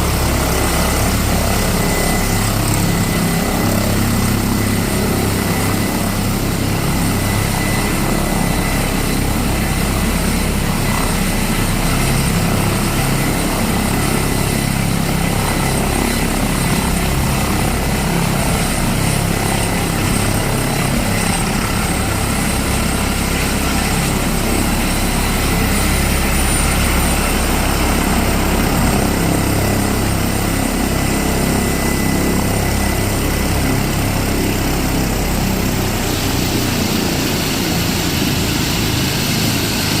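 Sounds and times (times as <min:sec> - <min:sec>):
helicopter rotor beat and whine: 0:00.0 - 0:40.0.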